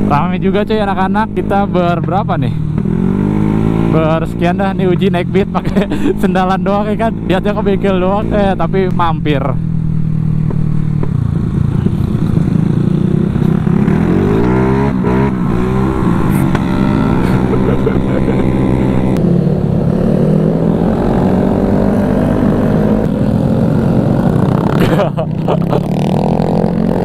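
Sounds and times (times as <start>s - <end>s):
motorcycle engines droning: 0.0s - 27.0s
motorcycles passing close: 0.0s - 27.0s
road and wind noise: 0.0s - 27.0s.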